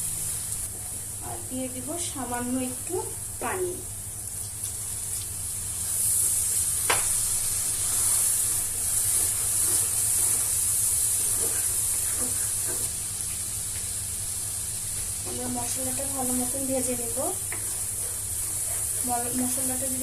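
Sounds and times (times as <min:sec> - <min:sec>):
paste sizzling in hot oil: 0:02.0 - 0:20.0.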